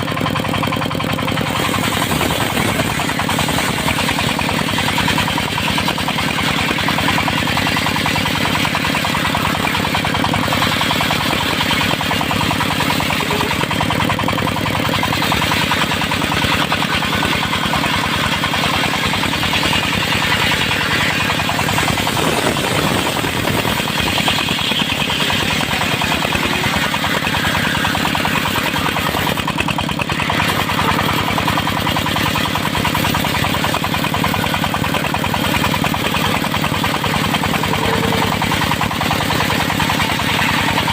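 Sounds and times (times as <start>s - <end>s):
circular saw cutting timber: 0.0s - 40.9s
sawmill engine beating: 0.0s - 40.9s.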